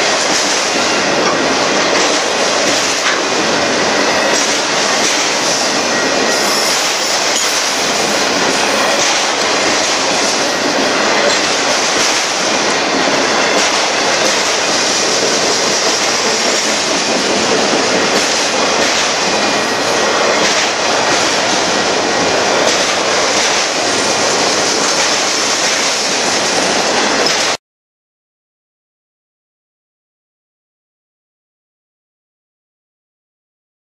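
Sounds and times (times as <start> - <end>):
freight train wheels on rails: 0.0 - 27.6.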